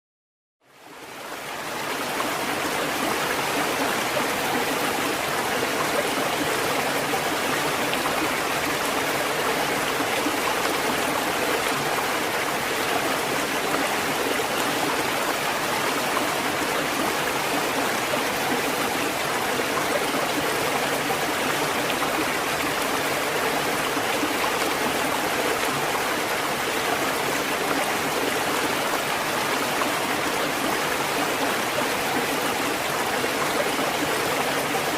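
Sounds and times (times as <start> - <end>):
rushing water: 0.6 - 34.9.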